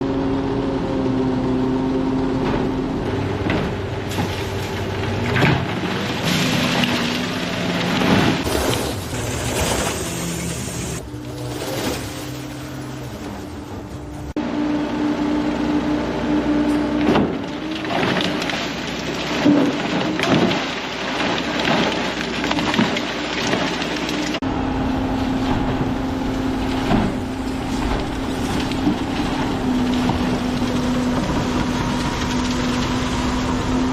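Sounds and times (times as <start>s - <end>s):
machine drone: 0.0s - 19.5s, 24.1s - 33.9s.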